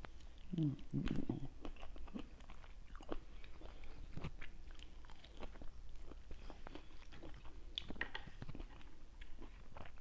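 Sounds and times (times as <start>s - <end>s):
person biting and chewing fruit: 0.0s - 10.0s.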